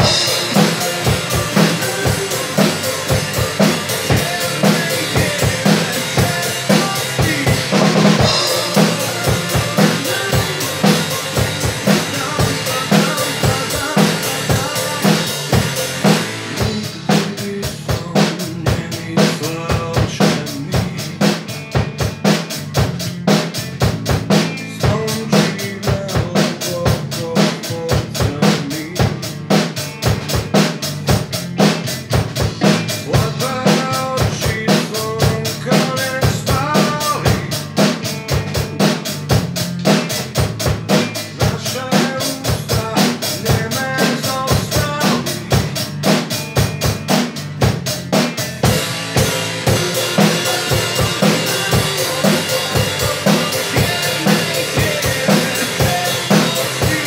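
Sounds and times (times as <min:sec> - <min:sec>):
drum kit playing: 0:00.0 - 0:57.0
pop-rock backing track: 0:00.0 - 0:57.0.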